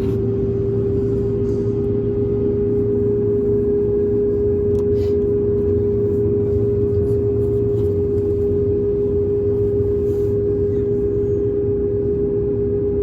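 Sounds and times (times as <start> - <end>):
airplane cabin engine hum: 0.0 - 13.0.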